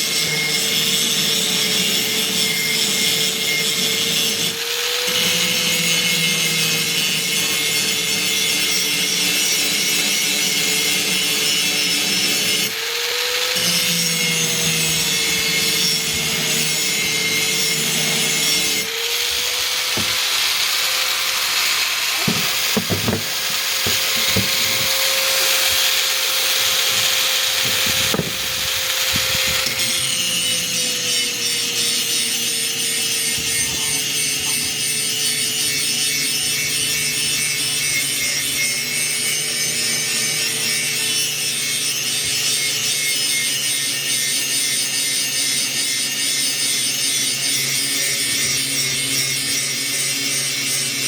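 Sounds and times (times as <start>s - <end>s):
grinder grinding steel: 0.0s - 51.0s
grinder motor humming: 0.0s - 51.0s.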